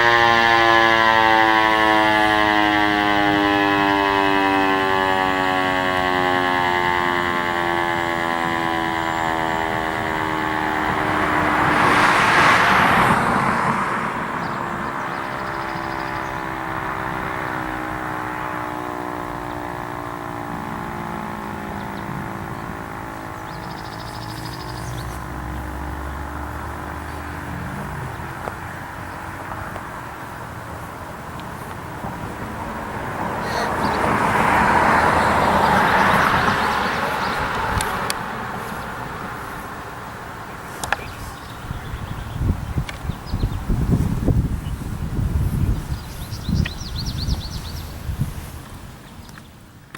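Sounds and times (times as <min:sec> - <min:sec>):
warning siren winding down: 0:00.0 - 0:48.6
vehicle passing: 0:00.0 - 0:49.4.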